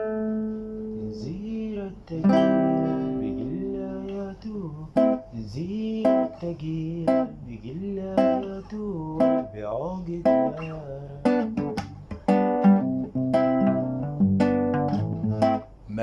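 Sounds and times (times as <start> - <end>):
plucked string instrument melody: 0.0 - 1.2, 2.2 - 5.3, 6.0 - 15.8.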